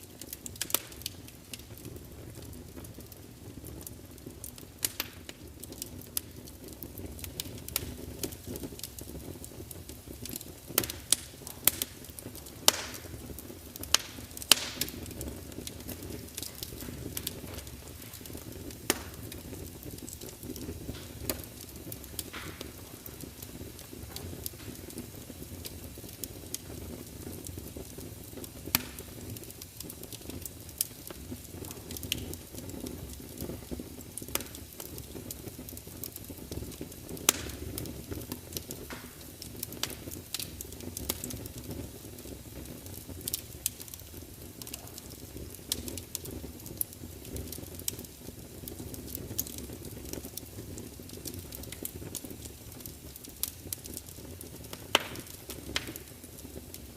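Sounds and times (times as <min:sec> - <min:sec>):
log fire crackling and popping: 0:00.0 - 0:56.9.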